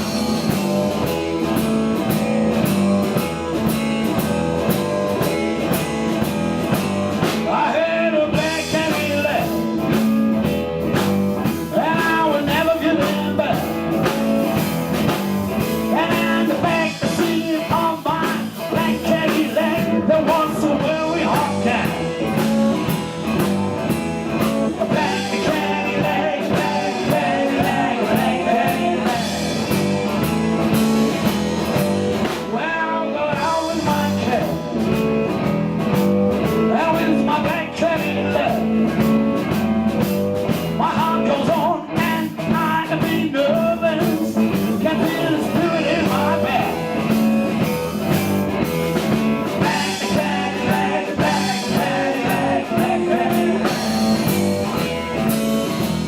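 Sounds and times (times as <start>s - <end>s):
blues-rock band playing: 0.0s - 56.0s
electric guitar lead: 0.0s - 56.0s.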